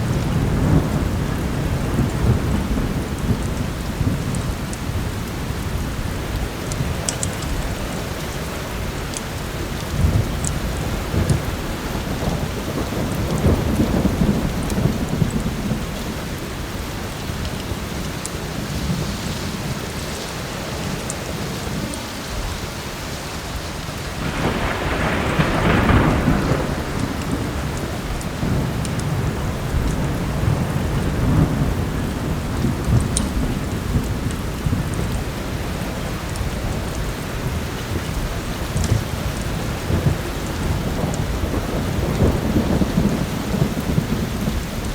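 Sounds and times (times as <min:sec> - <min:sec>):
heavy rain: 0:00.0 - 0:44.9
rolling thunder: 0:00.0 - 0:44.9
wood fire crackling: 0:03.1 - 0:44.9.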